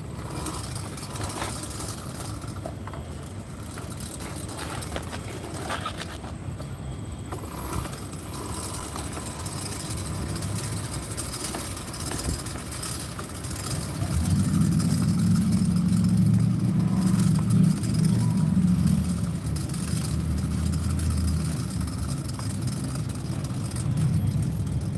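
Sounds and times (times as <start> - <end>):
car engine rumbling: 0.0 - 24.9.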